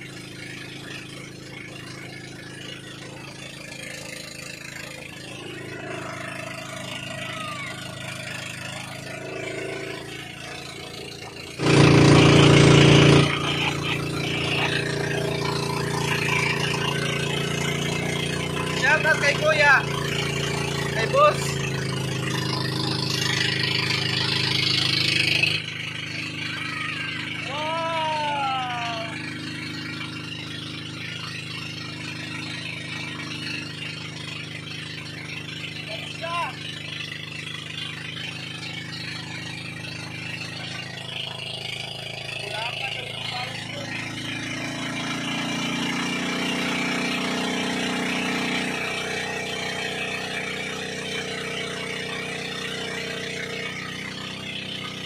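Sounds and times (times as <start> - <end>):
boat motor running: 0.0 - 55.0.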